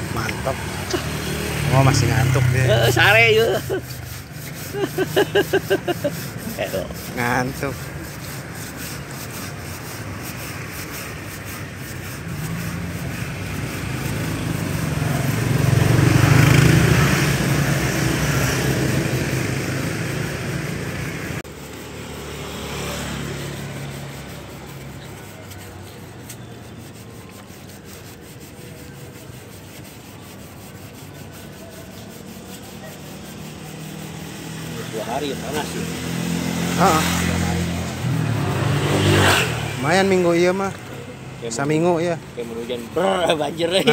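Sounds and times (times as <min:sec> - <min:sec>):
passing road vehicle: 0:00.0 - 0:43.9
sanding block scraping body filler: 0:00.0 - 0:43.9.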